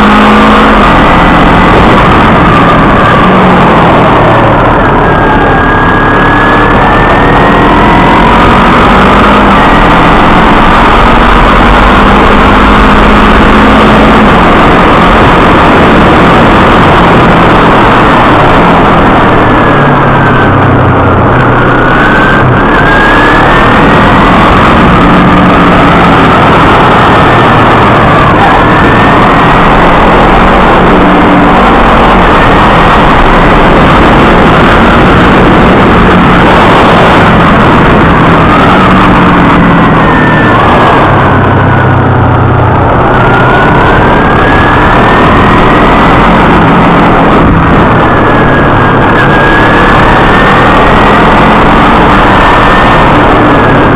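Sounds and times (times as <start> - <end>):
loud constant microphone noise: 0.0 - 53.9
motorcycle engine running: 0.0 - 53.9
wind and road noise: 0.0 - 53.9.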